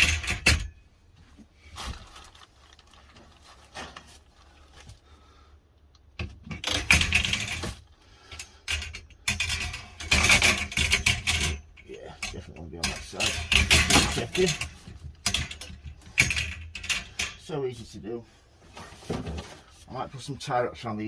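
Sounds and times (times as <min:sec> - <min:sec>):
shelving parts rattling and clattering: 0:00.0 - 0:05.2, 0:06.1 - 0:21.0.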